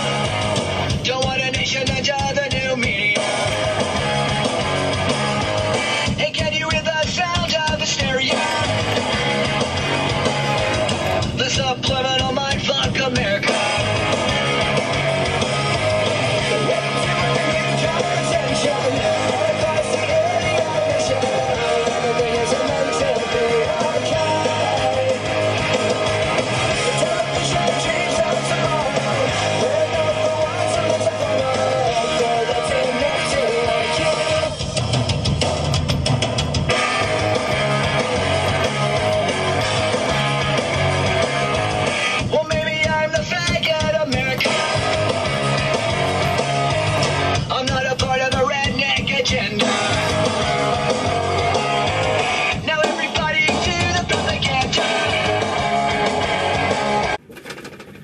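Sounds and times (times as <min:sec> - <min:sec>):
rock music with guitar: 0:00.0 - 0:57.3.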